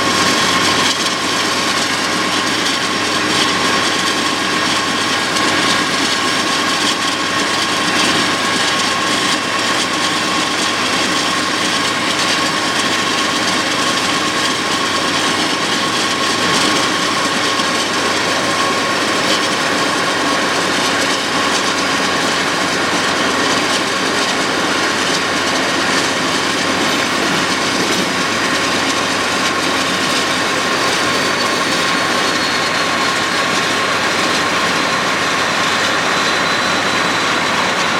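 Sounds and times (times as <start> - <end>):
train wheels on track: 0.0 - 37.9.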